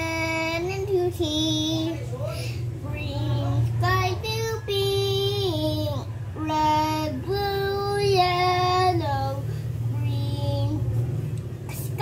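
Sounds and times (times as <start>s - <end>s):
child singing: 0.0s - 2.0s, 2.8s - 10.8s
steady low hum: 0.0s - 12.0s.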